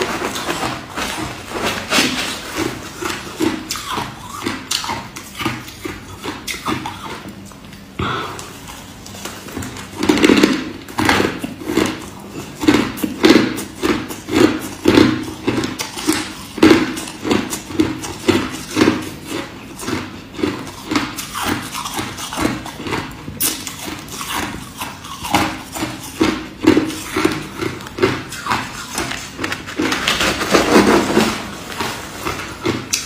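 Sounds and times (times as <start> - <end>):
crushed ice being chewed: 0.0 - 33.0.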